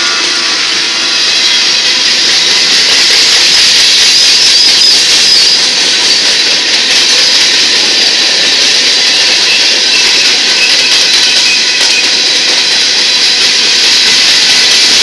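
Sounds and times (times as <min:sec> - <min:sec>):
faint high wavering squeal: 0:00.0 - 0:07.0, 0:09.0 - 0:15.0
freight train wheels clattering: 0:00.0 - 0:15.0.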